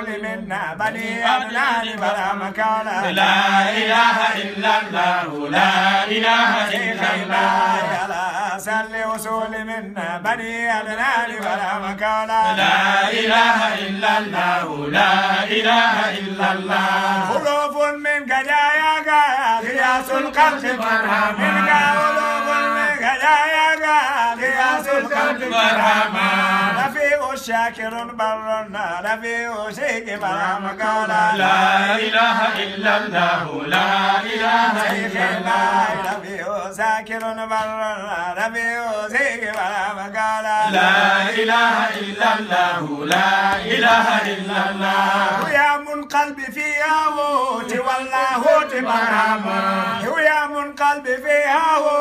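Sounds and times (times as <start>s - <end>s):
men chanting: 0.0s - 52.0s.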